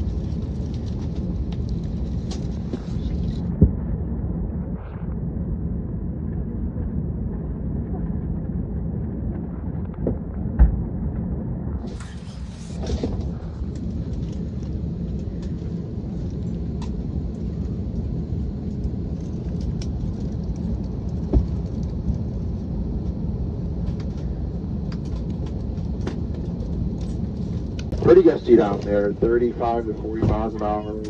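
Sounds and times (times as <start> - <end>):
airliner cabin low rumble: 0.0 - 31.0.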